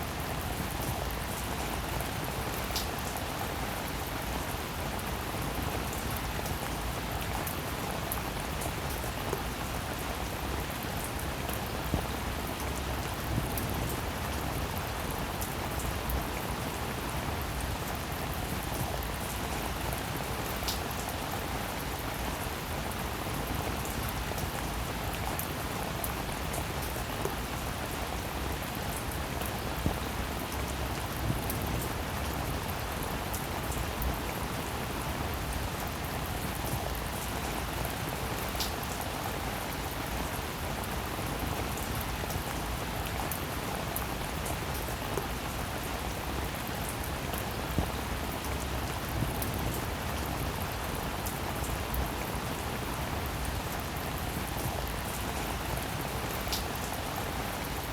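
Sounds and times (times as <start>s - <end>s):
rain pattering: 0.1s - 57.9s.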